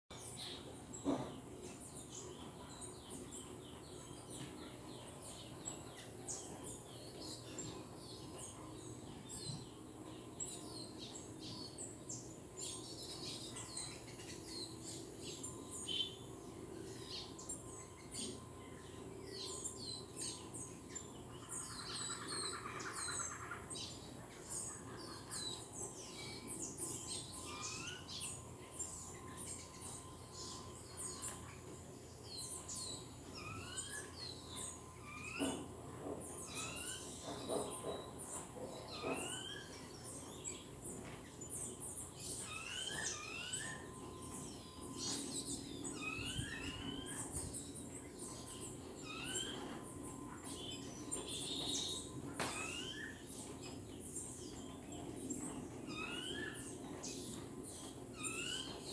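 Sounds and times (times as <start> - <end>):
songbirds chirping and twittering: 0.0 - 58.9
buzzy bird trill: 1.6 - 58.9.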